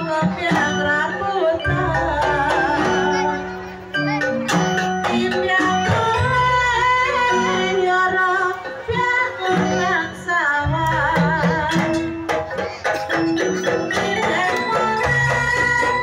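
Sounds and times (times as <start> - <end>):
drum: 0.0 - 7.7, 8.9 - 16.0
woman singing ornamented melody: 0.0 - 12.4, 13.2 - 16.0
ringing metallophones: 0.0 - 16.0.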